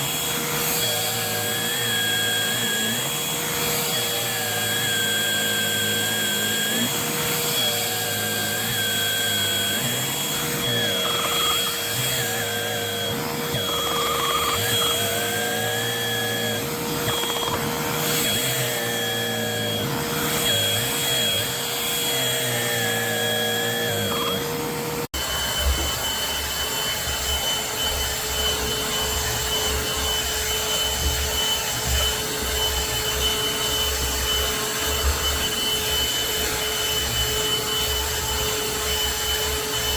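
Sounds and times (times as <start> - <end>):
hand vacuum motor whining: 0.0 - 39.9.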